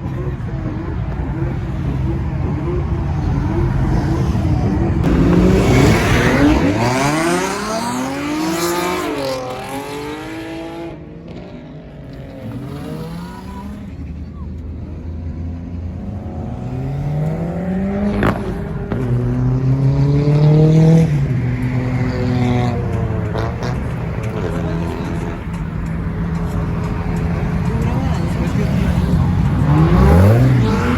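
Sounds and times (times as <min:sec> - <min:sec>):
car engine revving and accelerating: 0:00.0 - 0:30.9.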